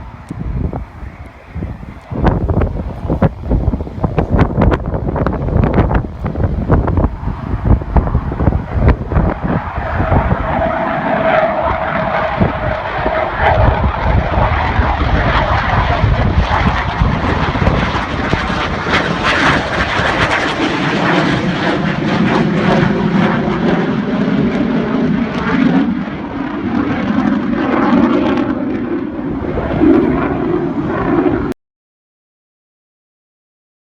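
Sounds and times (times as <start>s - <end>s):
jet engine roar: 0.0s - 31.6s.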